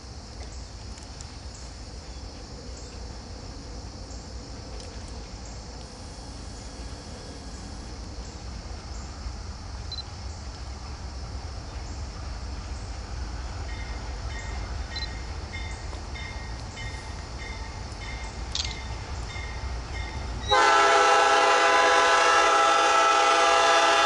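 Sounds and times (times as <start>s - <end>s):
diesel locomotive rumble: 0.0s - 24.0s
insects buzzing: 0.0s - 24.0s.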